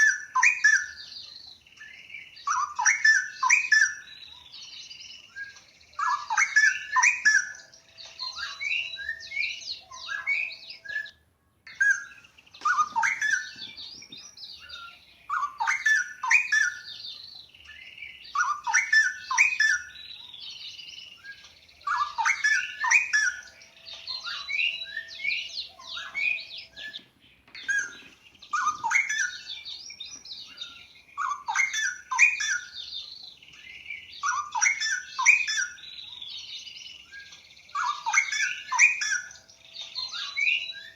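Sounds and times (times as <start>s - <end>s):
bulbul singing: 0.0s - 40.9s
faint high twittering: 0.0s - 40.9s.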